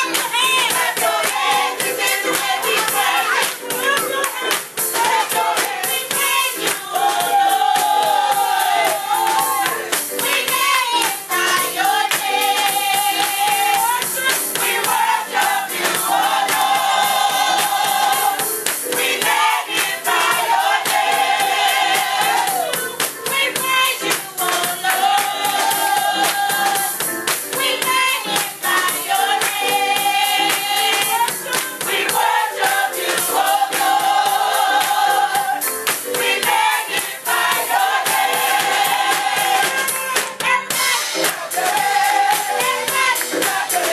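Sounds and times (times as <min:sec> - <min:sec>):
rhythmic handclapping: 0:00.0 - 0:43.9
women's choir singing gospel: 0:00.0 - 0:43.9.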